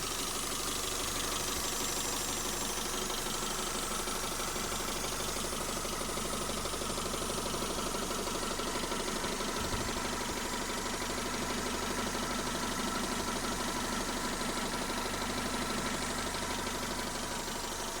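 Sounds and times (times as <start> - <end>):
car engine idling with knock: 0.0 - 18.0.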